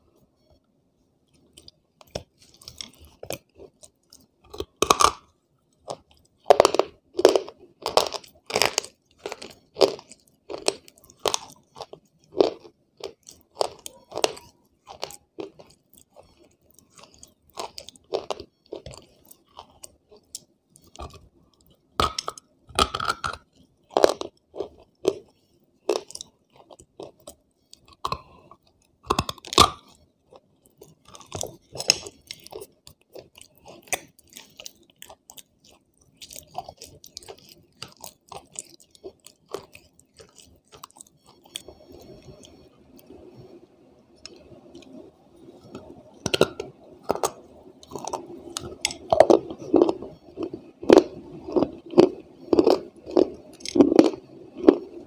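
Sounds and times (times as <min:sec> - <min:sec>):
crunching and chewing: 0:01.3 - 0:43.5, 0:44.1 - 0:55.0.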